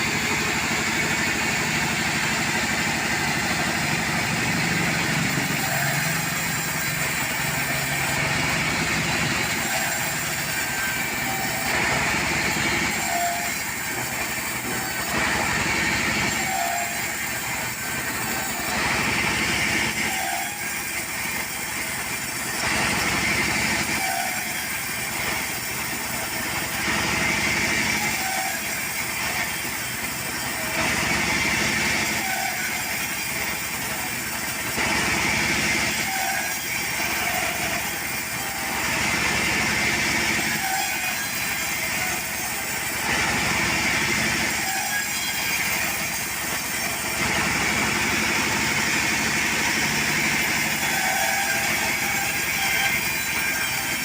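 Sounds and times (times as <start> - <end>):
sawmill engine cutting timber: 0.0 - 54.0.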